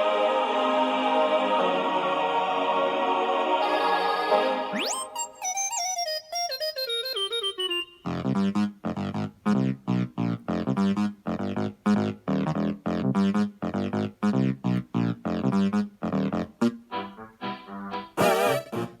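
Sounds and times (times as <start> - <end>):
keyboard notes and chords: 3.7 - 19.0.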